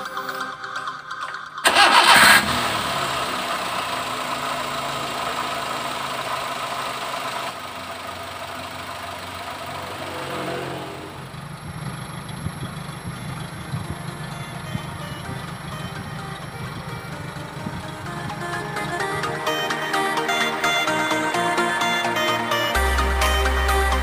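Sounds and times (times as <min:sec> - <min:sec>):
car engine idling: 0:01.6 - 0:24.0.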